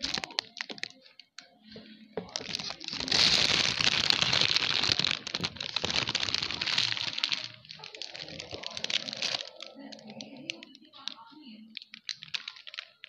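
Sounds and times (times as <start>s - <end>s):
plastic containers rustling and clicking: 0.0s - 1.4s, 2.2s - 13.0s.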